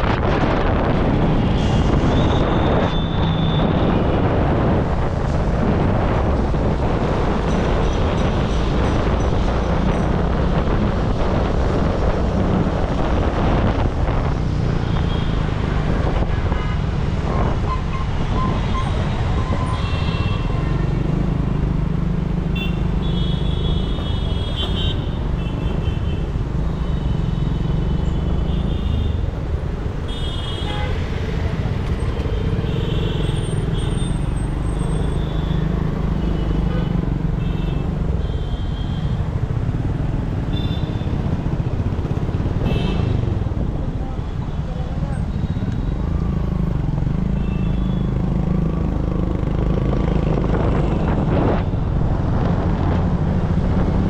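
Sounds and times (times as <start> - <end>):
traffic engines and road noise: 0.0 - 54.0.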